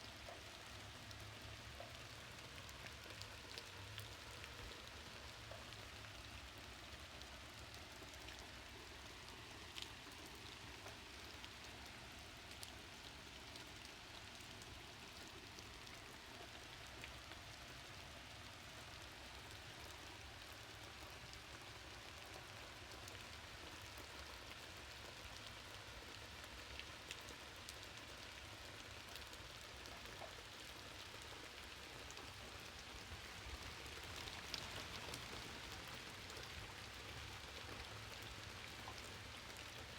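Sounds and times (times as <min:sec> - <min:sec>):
faint steady rain: 0:00.0 - 0:39.9.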